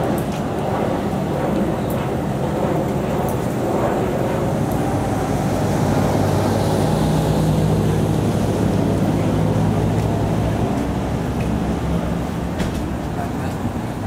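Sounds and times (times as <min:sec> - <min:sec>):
engine hum: 0:00.0 - 0:14.0
street traffic rumble: 0:00.0 - 0:14.0
wind buffeting microphone: 0:00.0 - 0:14.0.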